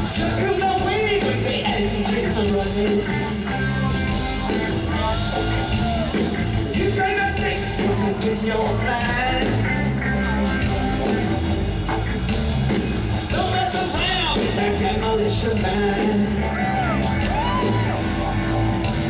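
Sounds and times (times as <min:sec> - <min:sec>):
person singing: 0:00.0 - 0:11.4, 0:13.2 - 0:19.0
bass and drum groove: 0:00.0 - 0:19.0.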